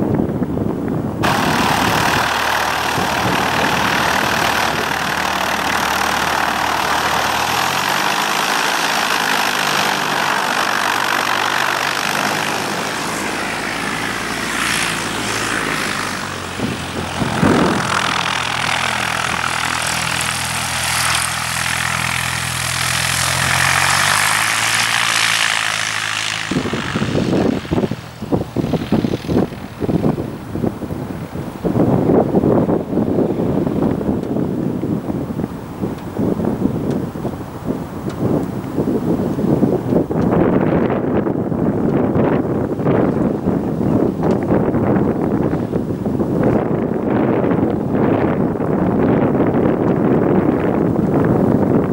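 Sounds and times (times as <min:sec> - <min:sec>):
light aircraft engine and propeller: 0:00.0 - 0:51.9
wind gusts on microphone: 0:00.0 - 0:51.9.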